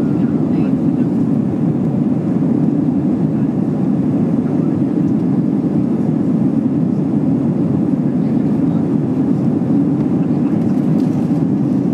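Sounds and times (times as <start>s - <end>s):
aircraft cabin roar: 0.0s - 11.9s.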